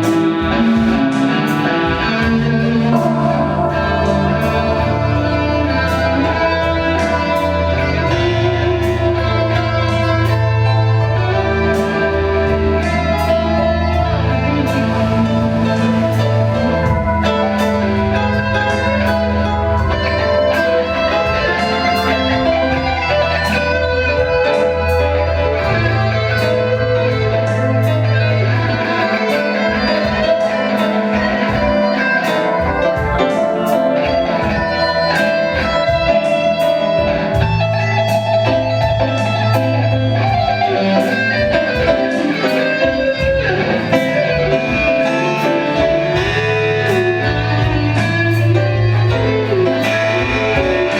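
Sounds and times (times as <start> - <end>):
guitar lines: 0.0 - 50.9
keyboard chords: 0.0 - 50.9
low bass notes: 0.0 - 50.9.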